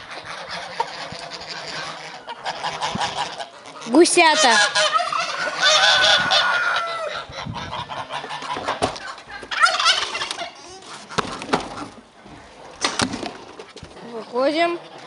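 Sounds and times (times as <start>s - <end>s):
poultry calling: 0.0s - 12.0s, 14.0s - 15.0s.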